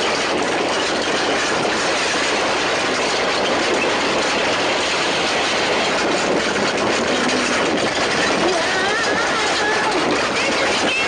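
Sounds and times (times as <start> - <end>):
earthquake rumble: 0.0 - 11.0.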